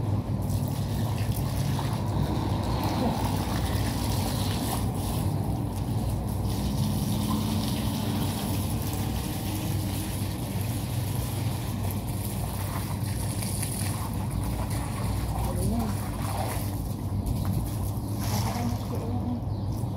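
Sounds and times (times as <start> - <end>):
water spraying from hose: 0.0 - 19.3
constant low hum: 0.0 - 19.9.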